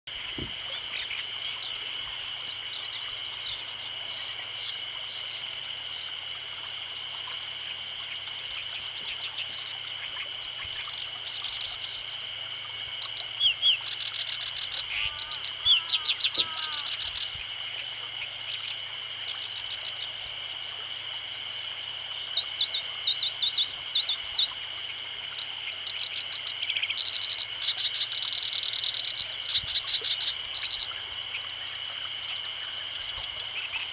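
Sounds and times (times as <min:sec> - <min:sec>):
warbler singing with buzzy trills: 0:00.2 - 0:20.6, 0:22.2 - 0:33.9.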